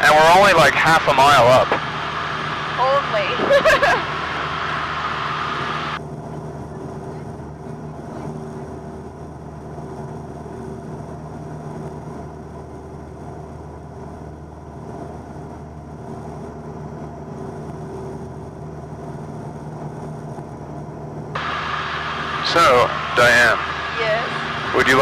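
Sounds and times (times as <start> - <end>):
light aircraft cabin drone: 0.0 - 25.0.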